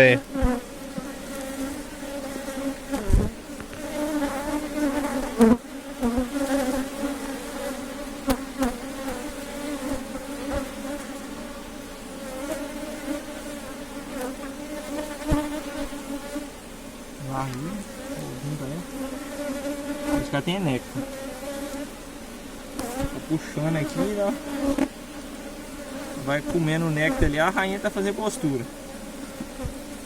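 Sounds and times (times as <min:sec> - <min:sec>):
honey bees buzzing: 0:00.0 - 0:30.0.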